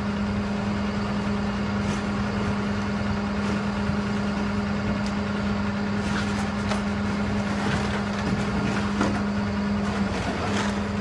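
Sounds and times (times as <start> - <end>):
lorry engine humming: 0.0 - 11.0.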